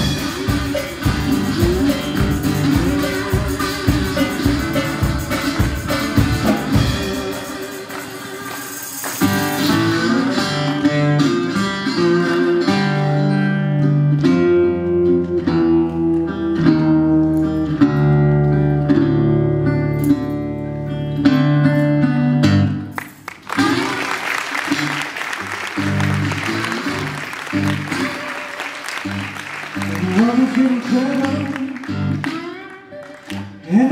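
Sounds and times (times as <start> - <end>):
busy blues guitar playing: 0.0 - 33.9.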